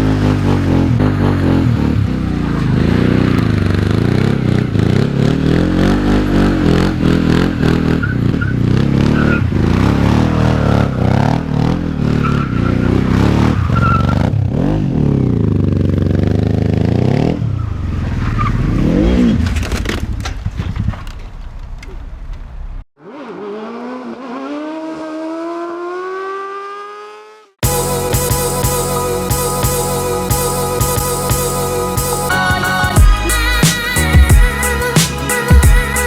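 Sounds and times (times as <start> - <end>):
quad engine revving: 0.0 - 20.0, 23.0 - 36.0.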